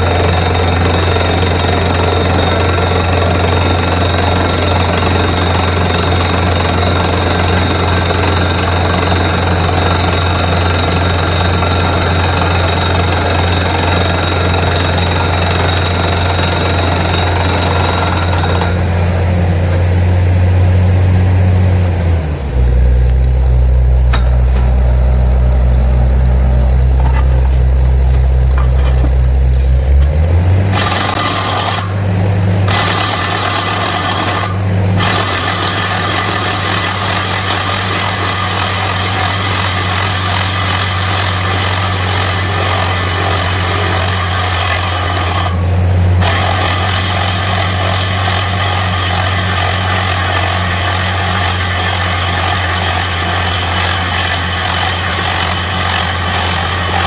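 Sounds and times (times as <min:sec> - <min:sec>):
drilling rig engine running: 0:00.0 - 0:57.0.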